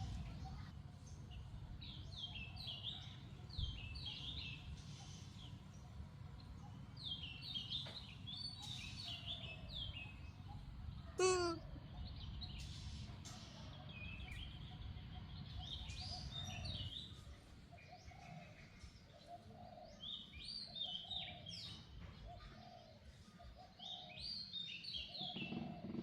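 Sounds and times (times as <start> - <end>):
birds chirping: 0.0 - 23.2, 23.8 - 26.0
low steady outdoor rumble: 0.0 - 26.0.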